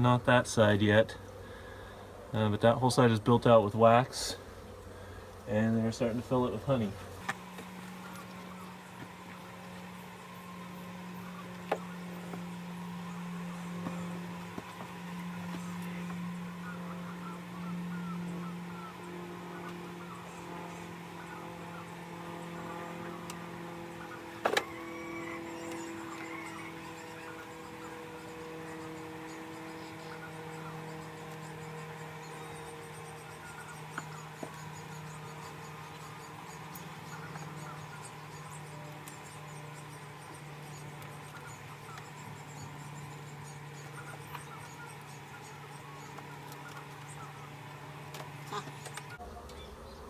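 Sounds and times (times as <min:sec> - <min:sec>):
honeybees buzzing: 0:00.0 - 0:50.0
faint ticks and squeaks: 0:07.0 - 0:50.0.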